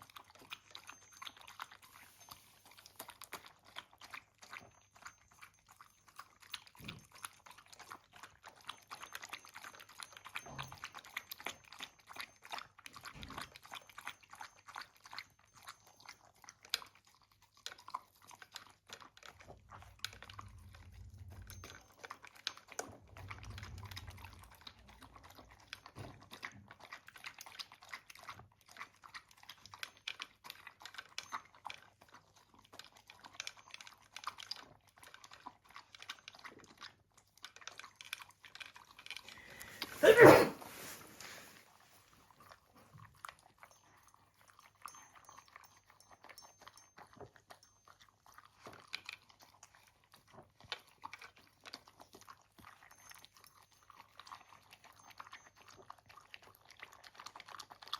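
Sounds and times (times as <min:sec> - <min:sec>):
dog crunching dry food: 0:00.0 - 0:40.0, 0:40.8 - 0:57.9.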